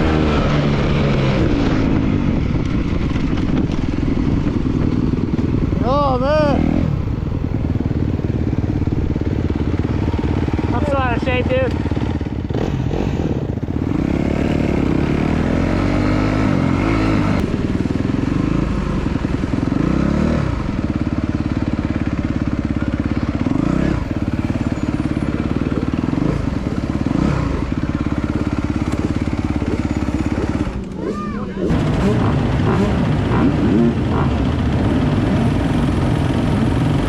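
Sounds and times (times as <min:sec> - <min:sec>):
motocross bike engine revving: 0:00.0 - 0:37.0.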